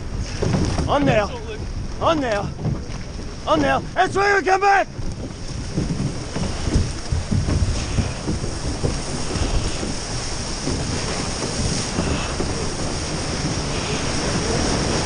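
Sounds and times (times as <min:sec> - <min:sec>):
rush of surf and water: 0:00.0 - 0:15.0
wind buffeting the microphone: 0:00.0 - 0:15.0.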